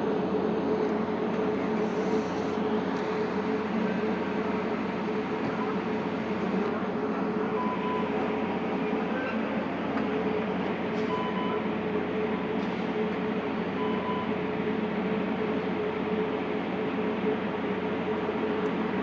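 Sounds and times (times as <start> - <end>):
train running with steady hum: 0.0 - 19.0.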